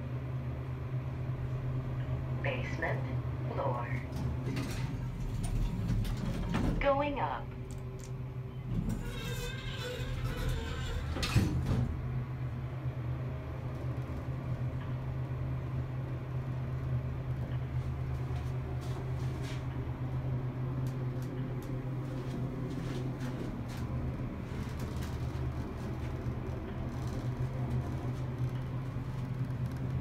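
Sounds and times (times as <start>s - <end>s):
elevator car humming: 0.0s - 30.0s.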